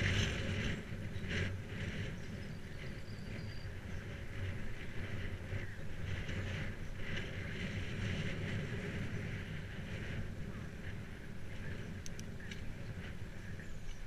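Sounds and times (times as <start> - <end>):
bicycle tyres rumbling on dirt: 0.0 - 14.0
wind on microphone: 0.0 - 14.0.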